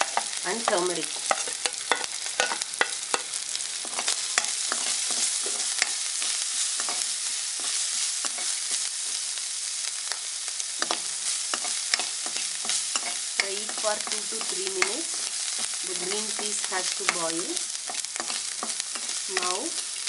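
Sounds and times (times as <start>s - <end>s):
spoon scraping a wok: 0.0s - 9.4s, 10.0s - 20.0s
food sizzling in oil: 0.0s - 20.0s.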